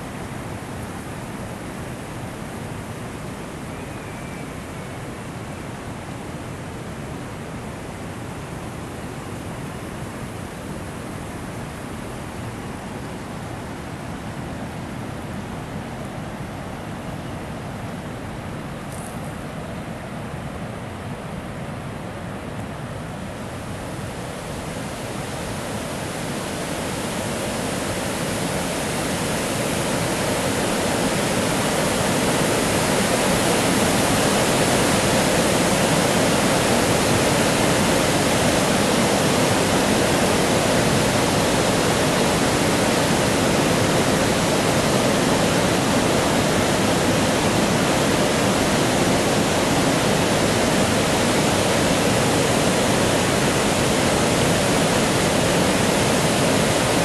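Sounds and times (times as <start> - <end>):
creek water rushing over dam: 0.0 - 57.0.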